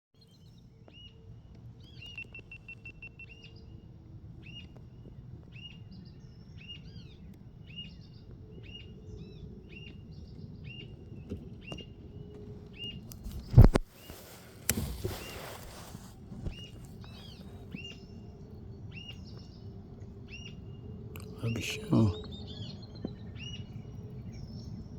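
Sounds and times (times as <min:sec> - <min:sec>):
bird chirping: 0:01.8 - 0:14.4, 0:15.0 - 0:24.9.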